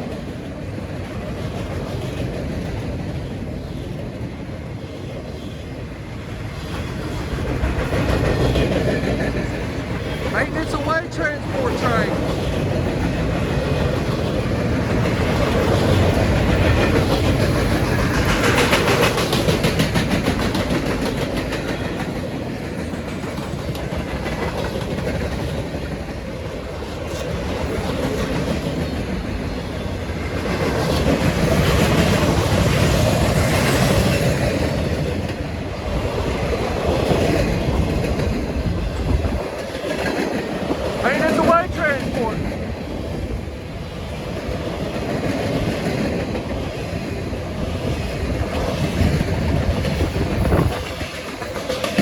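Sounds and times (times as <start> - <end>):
train wheels rolling on rails: 0.0 - 52.0.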